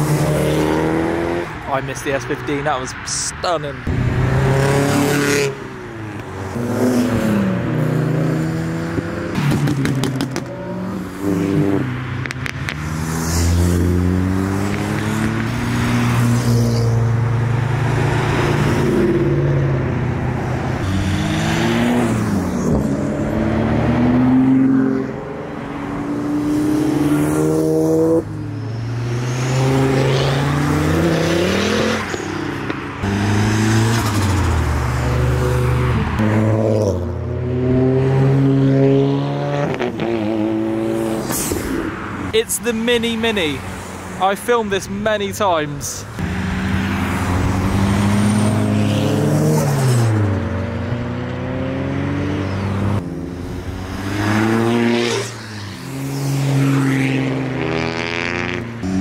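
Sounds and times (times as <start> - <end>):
cars accelerating and revving: 0.0 - 59.0.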